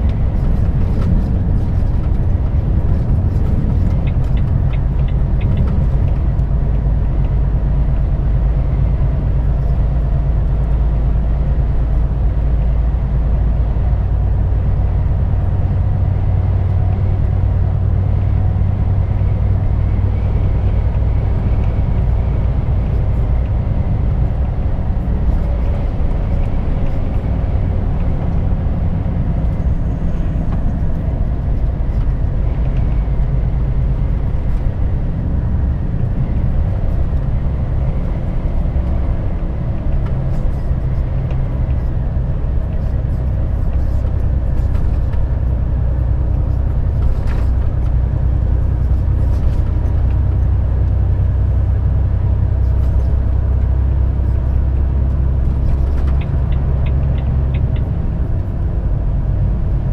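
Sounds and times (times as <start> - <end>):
truck engine drone: 0.0 - 59.9
tyre and road noise: 0.0 - 59.9.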